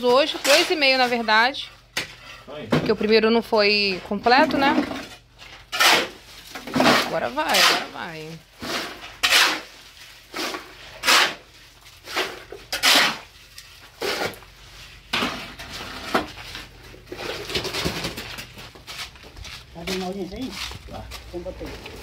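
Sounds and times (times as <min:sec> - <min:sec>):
shovel scraping concrete floor: 0:00.0 - 0:03.0, 0:03.7 - 0:19.1.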